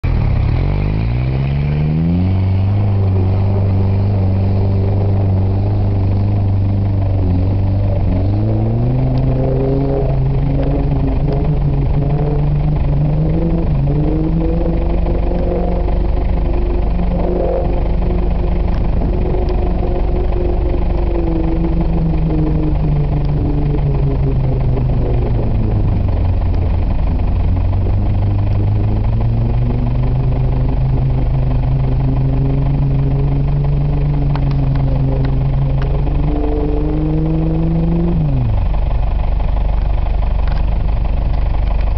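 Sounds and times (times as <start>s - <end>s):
off-road vehicle engine revving: 0.0s - 41.9s.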